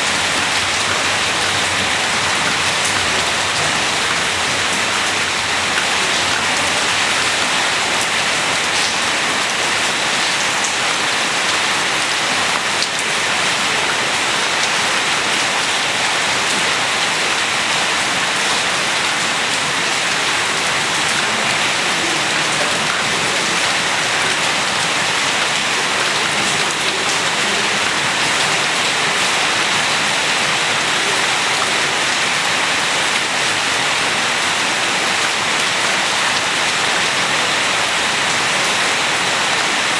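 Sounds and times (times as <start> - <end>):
raindrops on hard surfaces: 0.0 - 39.9
steady rain hiss: 0.0 - 39.9.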